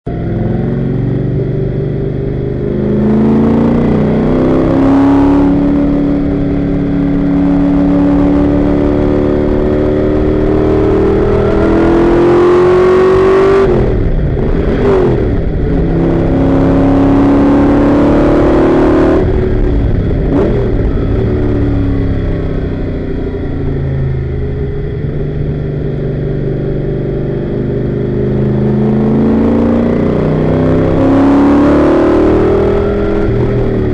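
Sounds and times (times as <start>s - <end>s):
race car engine revving: 0.1s - 33.9s.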